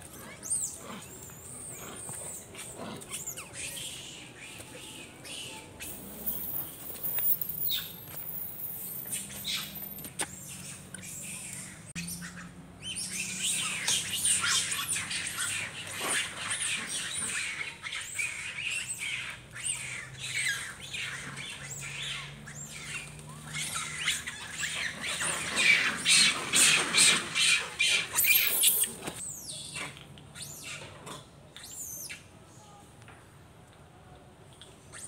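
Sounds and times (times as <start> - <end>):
monkeys screaming and squealing: 0.0 - 32.3.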